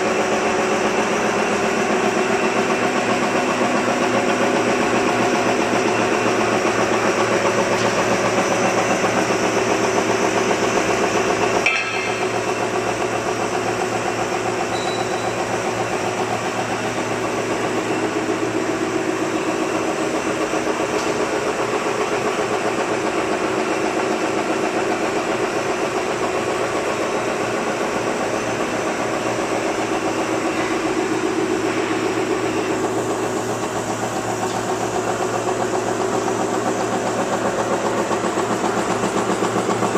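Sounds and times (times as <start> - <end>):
folding machine whirring and rattling: 0.0 - 39.9.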